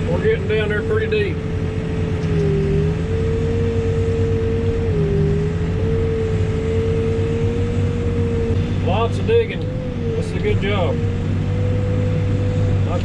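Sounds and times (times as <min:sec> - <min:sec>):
backhoe engine whining: 0:00.0 - 0:13.0.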